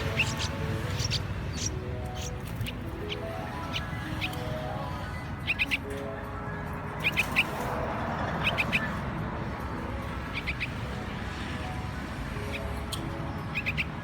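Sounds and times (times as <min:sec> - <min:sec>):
baby birds cheeping: 0:00.0 - 0:14.0.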